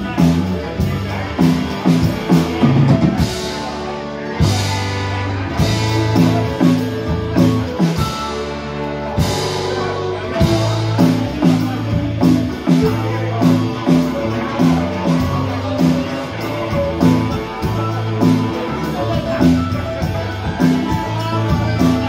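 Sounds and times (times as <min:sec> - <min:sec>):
acoustic guitar: 0:00.0 - 0:22.0
drum kit beat: 0:00.0 - 0:22.0
electric bass: 0:00.0 - 0:22.0.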